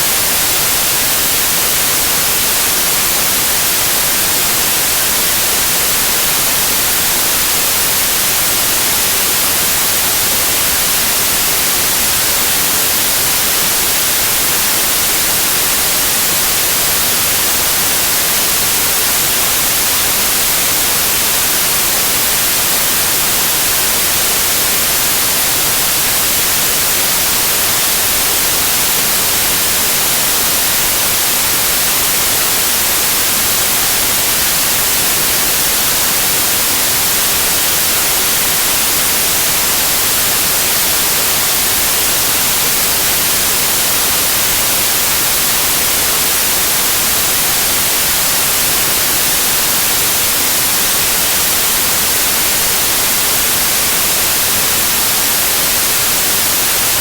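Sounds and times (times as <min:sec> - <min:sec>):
static white noise hiss: 0:00.0 - 0:57.0.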